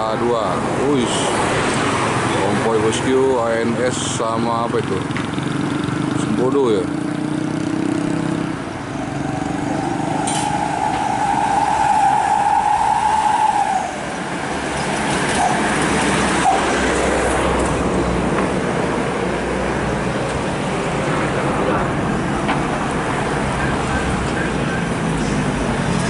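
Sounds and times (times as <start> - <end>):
buses passing: 0.0 - 26.0.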